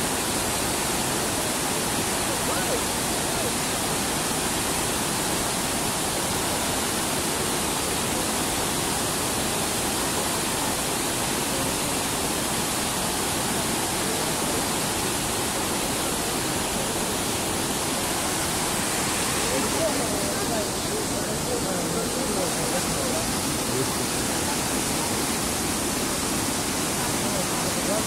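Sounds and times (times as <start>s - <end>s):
river rapids rushing: 0.0s - 28.0s.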